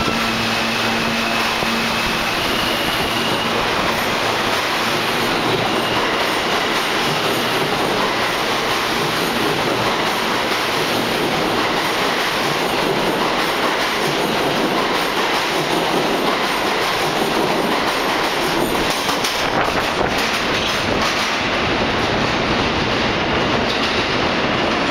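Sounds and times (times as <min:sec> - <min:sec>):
subway train wheel and rail noise: 0:00.0 - 0:24.9
wheels clacking over rail joints: 0:03.6 - 0:24.9.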